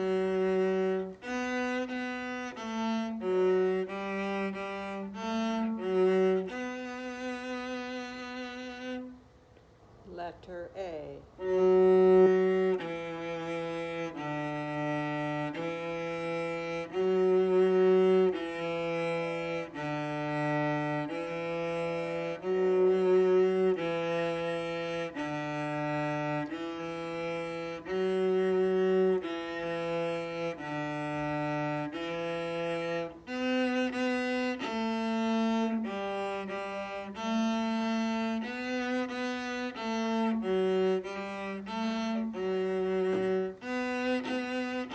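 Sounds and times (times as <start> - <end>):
bowed cello notes: 0.0 - 9.4, 10.1 - 44.9.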